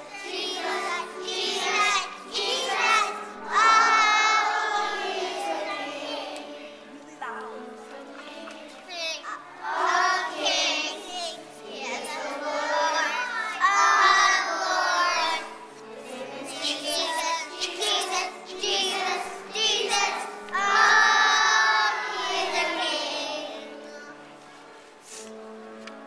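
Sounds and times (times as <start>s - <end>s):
children singing together: 0.0s - 25.5s
instrumental accompaniment: 0.0s - 26.0s.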